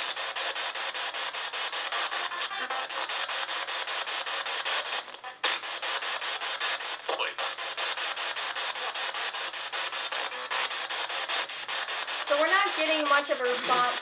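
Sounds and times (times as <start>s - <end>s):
chopped radio static: 0.0s - 14.0s.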